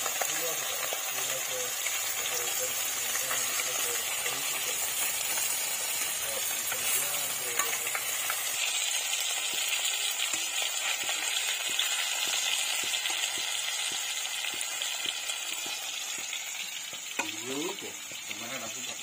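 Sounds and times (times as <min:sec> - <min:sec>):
fish sizzling in oil: 0:00.0 - 0:19.0
spatula turning fish: 0:00.0 - 0:19.0.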